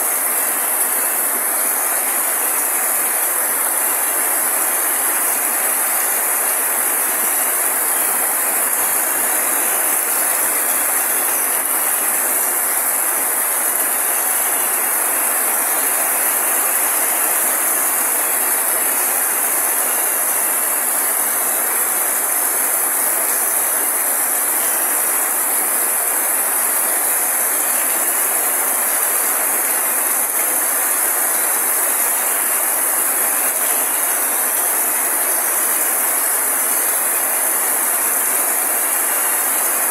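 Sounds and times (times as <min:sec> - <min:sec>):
heavy rain on foliage: 0:00.0 - 0:39.9.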